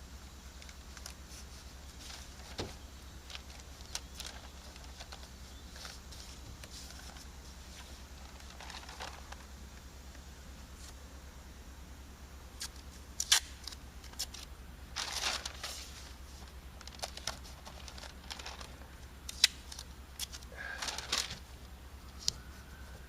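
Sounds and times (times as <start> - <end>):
steady low hum: 0.0 - 23.0
rustling bursts: 0.6 - 9.6, 13.4 - 22.9.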